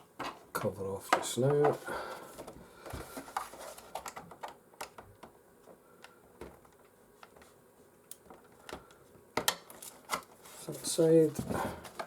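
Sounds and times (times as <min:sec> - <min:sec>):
faint clicks of plastic parts: 0:00.2 - 0:10.4.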